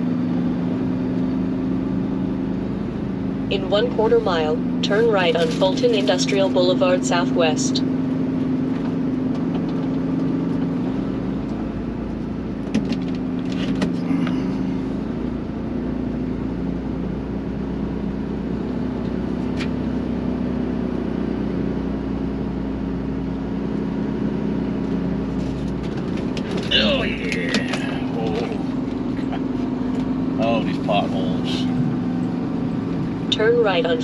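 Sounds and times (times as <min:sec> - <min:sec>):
truck diesel engine running: 0:00.0 - 0:34.0.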